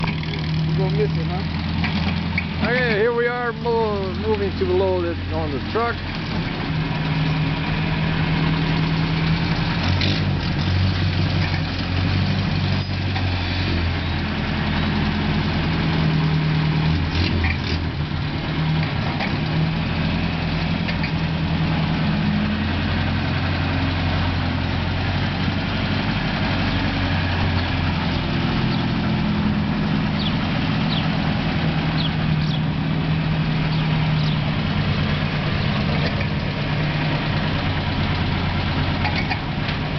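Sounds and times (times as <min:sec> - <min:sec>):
car engine idling: 0:00.0 - 0:09.8, 0:13.9 - 0:39.9.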